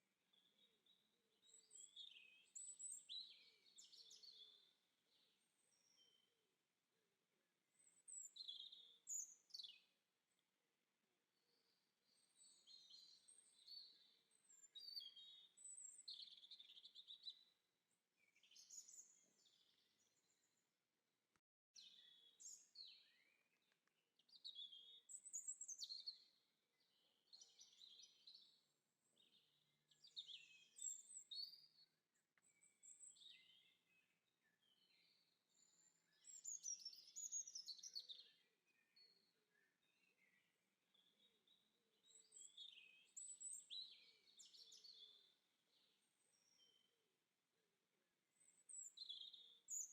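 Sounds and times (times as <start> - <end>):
songbird chirping and singing: 0.3 - 6.4, 7.7 - 10.4, 11.4 - 17.6, 18.2 - 20.6, 21.8 - 46.9, 48.3 - 49.9.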